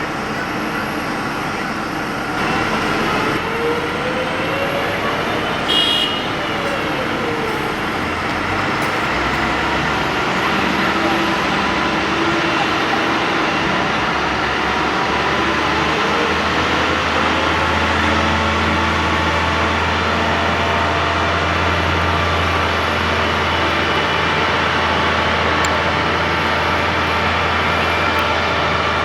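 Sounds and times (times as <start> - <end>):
faint engine whines: 0.0 - 29.0
jet engines roaring: 0.0 - 29.0.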